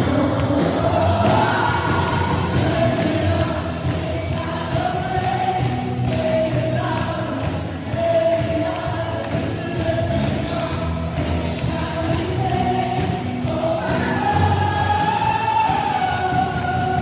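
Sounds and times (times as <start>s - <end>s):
band accompaniment: 0.0s - 17.0s
choir singing gospel music: 0.0s - 17.0s.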